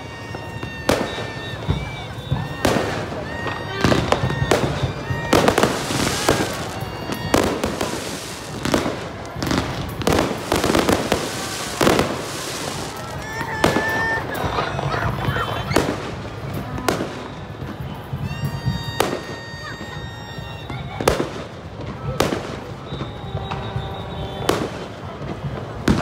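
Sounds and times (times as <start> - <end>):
fireworks bursting: 0.0 - 26.0
fireworks crackling: 0.0 - 26.0.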